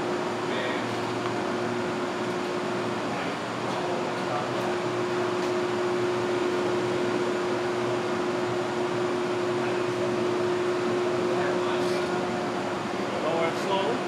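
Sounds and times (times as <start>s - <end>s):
mechanical hum with steady tone: 0.0s - 14.0s.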